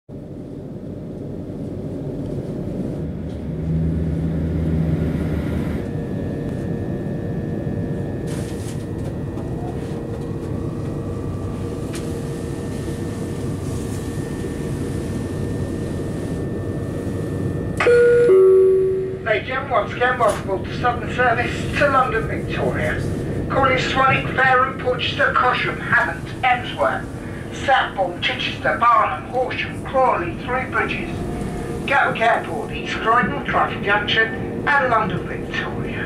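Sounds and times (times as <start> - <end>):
high-pitched train whine: 0.1 - 36.0
low hum: 0.1 - 36.0
train rumble: 0.1 - 36.0.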